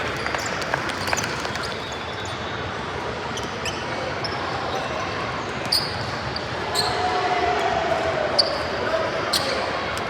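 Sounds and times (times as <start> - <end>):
crowd and room noise: 0.0 - 10.0.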